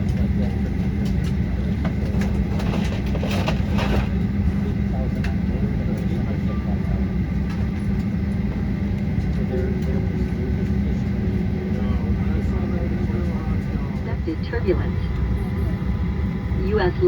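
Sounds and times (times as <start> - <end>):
airplane cabin drone: 0.0 - 17.0
passengers talking faintly: 0.0 - 17.0.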